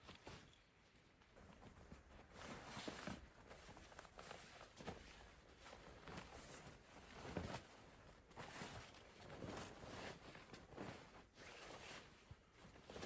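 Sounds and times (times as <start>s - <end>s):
faint rustling and soft crunches: 0.0s - 13.0s.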